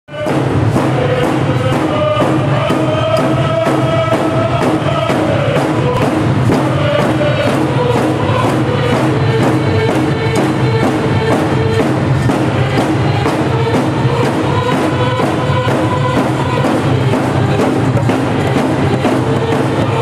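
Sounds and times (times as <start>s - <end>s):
group singing in unison: 0.1s - 20.0s
hand drums beating: 0.1s - 20.0s.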